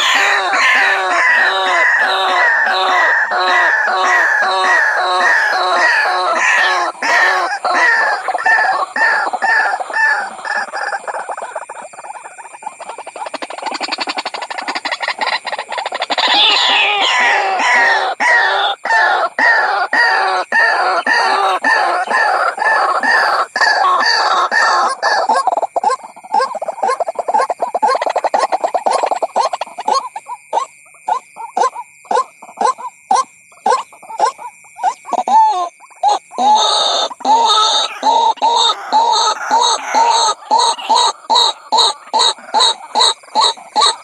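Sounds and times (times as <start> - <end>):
waterhen calls: 0.0 - 44.0.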